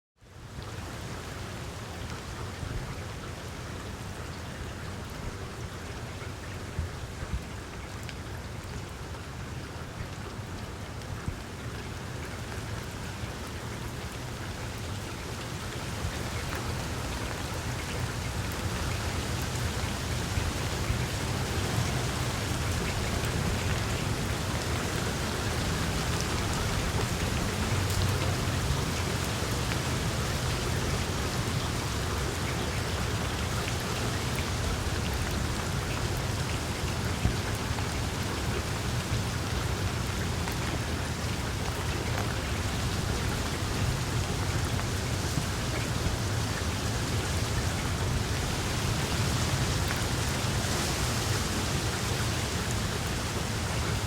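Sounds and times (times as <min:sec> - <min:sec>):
gentle rain falling: 0:00.2 - 0:54.0.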